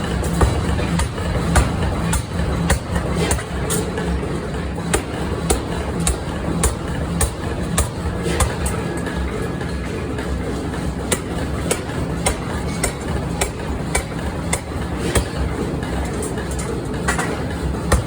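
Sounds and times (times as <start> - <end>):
steady machinery noise: 0.0 - 18.0.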